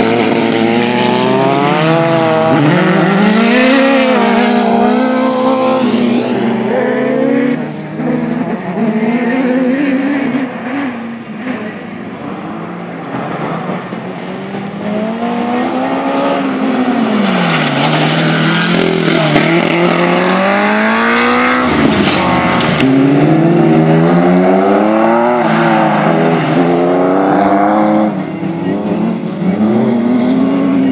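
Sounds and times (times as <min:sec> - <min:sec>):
buggy engines revving: 0:00.0 - 0:30.9.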